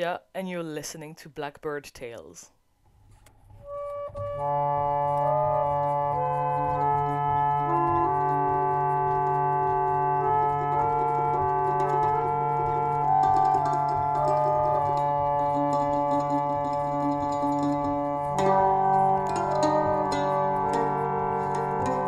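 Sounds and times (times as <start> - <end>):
slow keyboard chords: 3.6 - 22.0.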